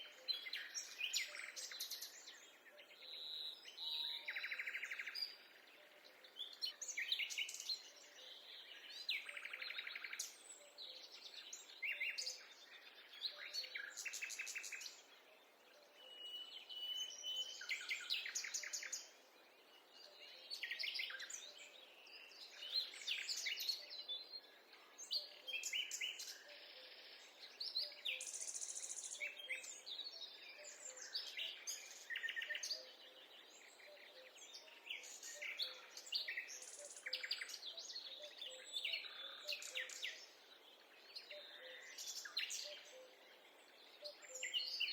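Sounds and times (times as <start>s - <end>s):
birds singing and calling: 0.0s - 44.9s.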